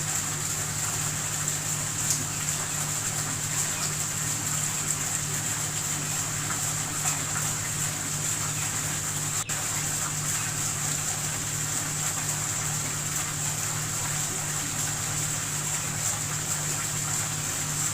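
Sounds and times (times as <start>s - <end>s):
water splashing in small waterfall: 0.0s - 17.9s.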